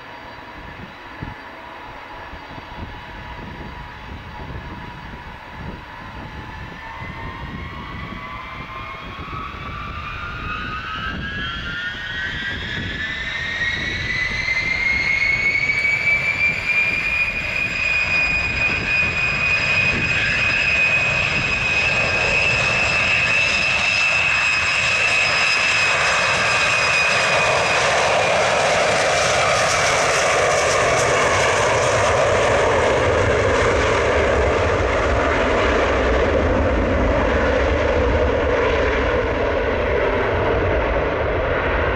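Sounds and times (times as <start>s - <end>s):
deep rushing jet roar: 0.0s - 41.9s
jet engines whining: 0.0s - 41.9s.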